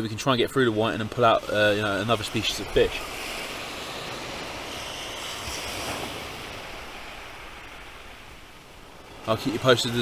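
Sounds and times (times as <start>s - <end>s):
sea waves washing onto beach: 0.0s - 10.0s.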